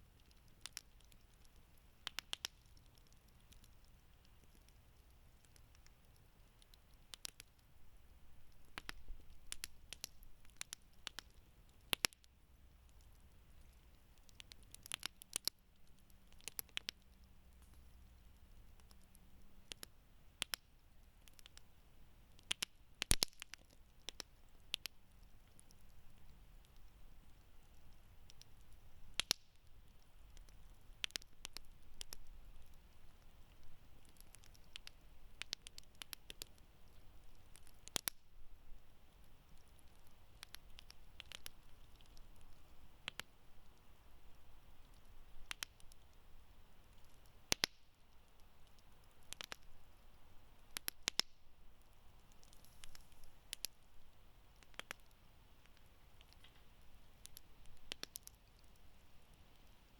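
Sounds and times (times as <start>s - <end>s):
campfire crackling and popping: 0.0s - 59.9s
faint steady hiss: 0.0s - 59.9s.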